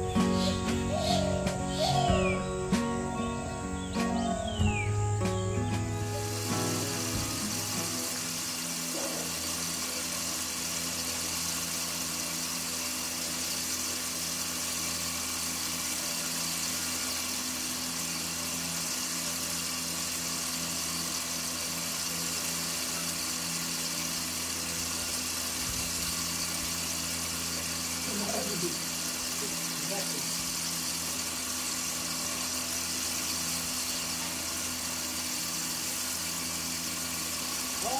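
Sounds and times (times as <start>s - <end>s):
even hiss: 0.0s - 37.9s
machine motor humming: 0.0s - 37.9s.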